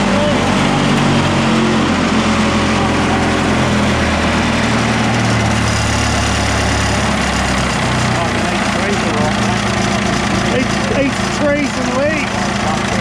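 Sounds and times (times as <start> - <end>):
wood chipper engine idling: 0.0 - 13.0.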